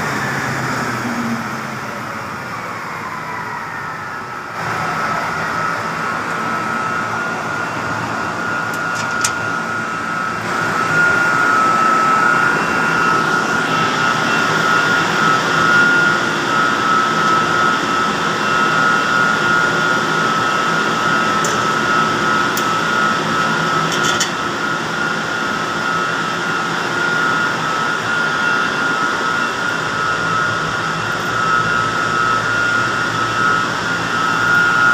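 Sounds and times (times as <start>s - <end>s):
generator engine drone: 0.0s - 34.9s
high-pitched whine: 0.0s - 34.9s.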